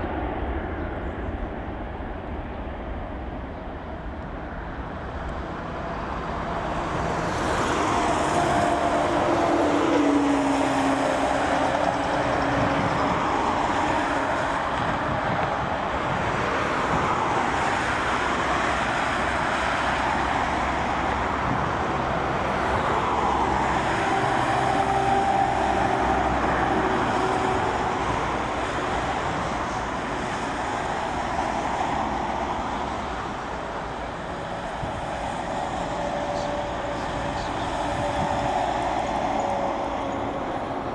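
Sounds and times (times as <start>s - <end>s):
jet engine roar: 0.0s - 40.9s.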